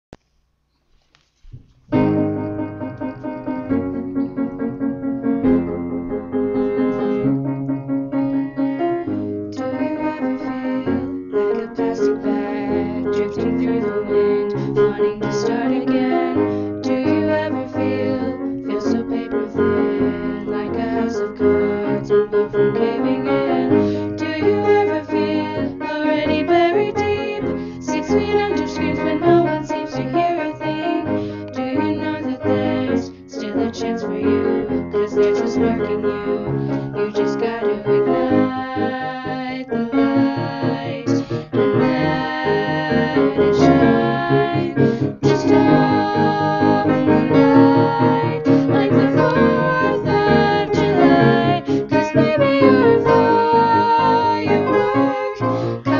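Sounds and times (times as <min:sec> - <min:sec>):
piano accompaniment: 0:01.6 - 0:55.9
women singing together: 0:08.2 - 0:55.9.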